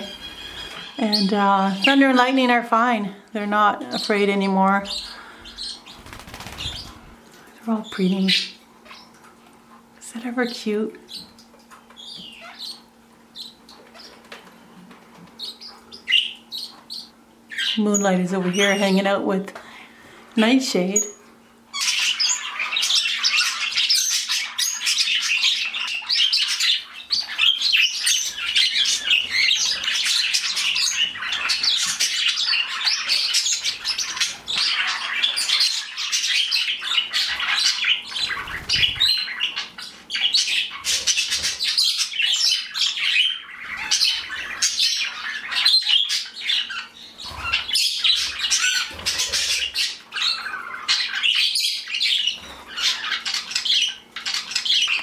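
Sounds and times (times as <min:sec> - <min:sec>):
budgies chattering: 0:00.0 - 0:09.3, 0:10.0 - 0:55.0
small birds chirping: 0:00.0 - 0:55.0.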